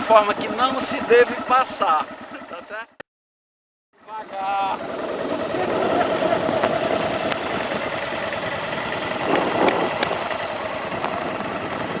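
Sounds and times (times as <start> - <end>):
motorcycle engine running: 0.0 - 3.0, 4.0 - 12.0.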